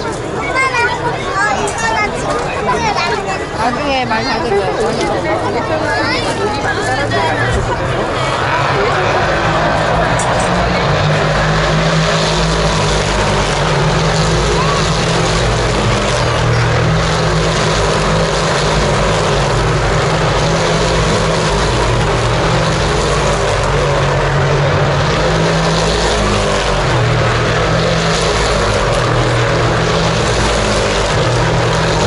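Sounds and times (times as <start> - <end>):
racing car engines droning: 0.0 - 32.0.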